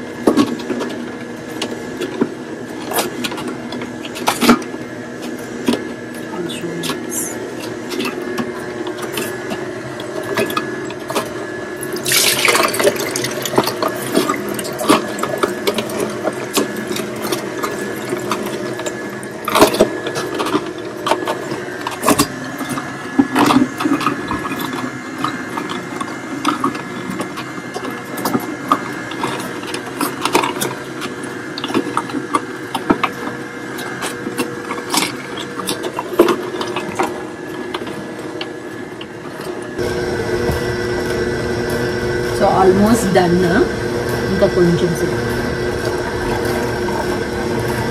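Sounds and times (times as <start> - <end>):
juice running: 0.0 - 47.9
juicer motor hum: 0.0 - 47.9.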